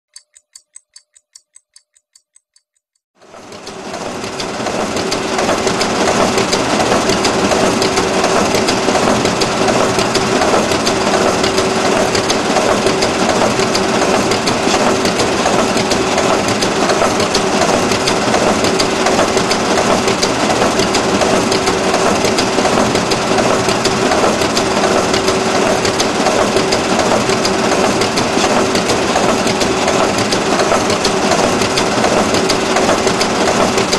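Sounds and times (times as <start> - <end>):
photocopier running: 3.2 - 33.9.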